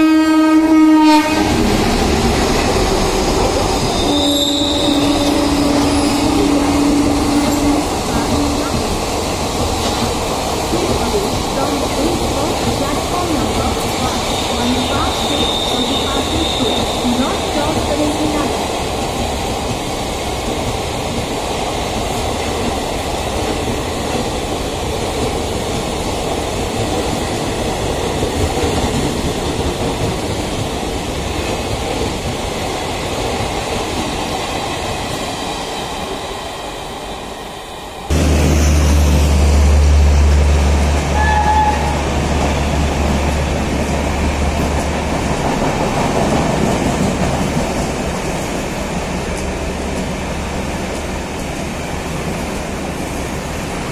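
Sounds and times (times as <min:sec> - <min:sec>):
train wheels rumbling on track: 0:00.0 - 0:53.9.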